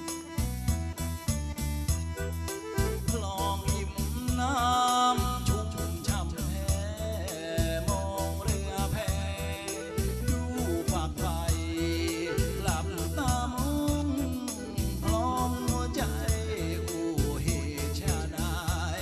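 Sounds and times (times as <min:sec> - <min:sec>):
live band music: 0:00.0 - 0:18.6.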